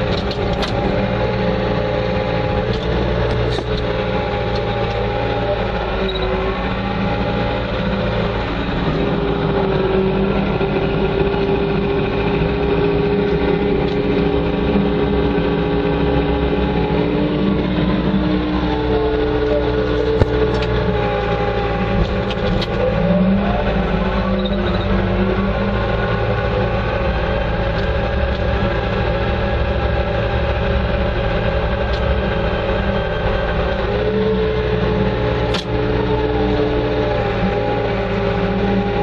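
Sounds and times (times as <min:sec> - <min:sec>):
loader engine running: 0:00.0 - 0:39.0.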